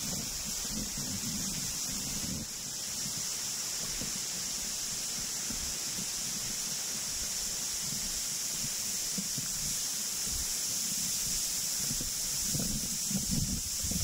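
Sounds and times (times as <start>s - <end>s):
forest ambience hiss: 0.0s - 14.0s
wind on microphone: 0.0s - 14.0s.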